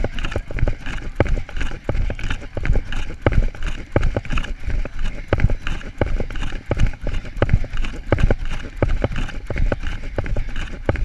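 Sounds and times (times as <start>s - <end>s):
running footsteps on pavement: 0.0s - 11.0s.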